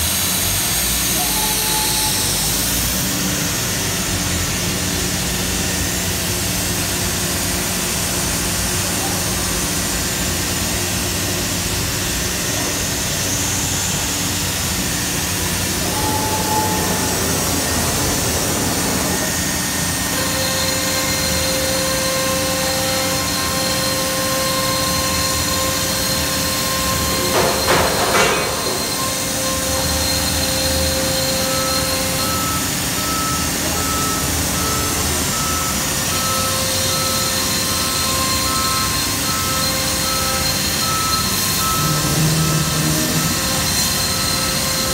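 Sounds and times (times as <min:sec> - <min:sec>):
machine mechanical hum: 0:00.0 - 0:44.9
steady whining tones: 0:00.2 - 0:44.9.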